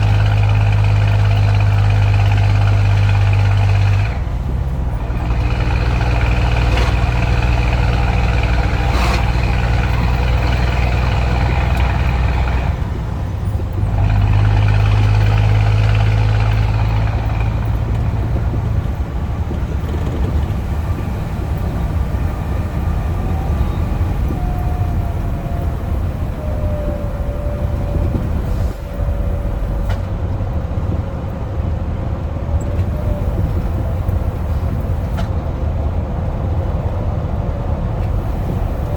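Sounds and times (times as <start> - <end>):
truck engine running hard: 0.0 - 38.9.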